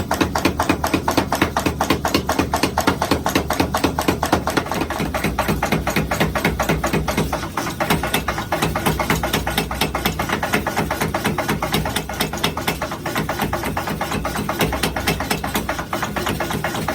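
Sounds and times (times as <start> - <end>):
power hammer striking hot steel: 0.0 - 16.9.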